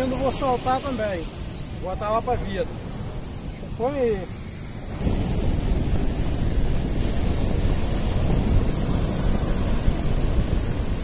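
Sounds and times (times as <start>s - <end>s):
breaking surf: 0.0s - 11.0s
wind buffeting microphone: 0.0s - 11.0s.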